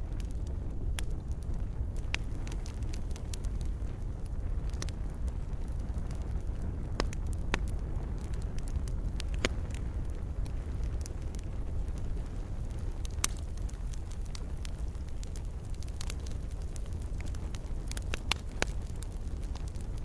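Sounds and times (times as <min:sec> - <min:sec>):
campfire crackling and popping: 0:00.0 - 0:20.0
steady low rumble: 0:00.0 - 0:20.0.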